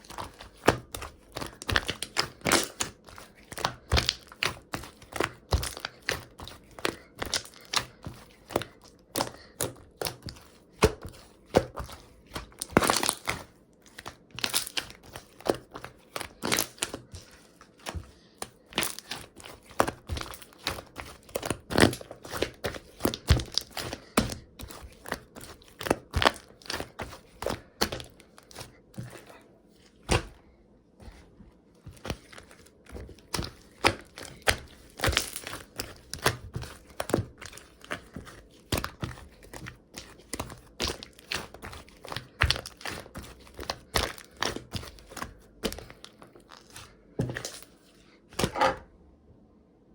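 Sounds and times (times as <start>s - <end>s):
slime squishing with wet clicks: 0.0s - 30.4s, 31.9s - 47.8s.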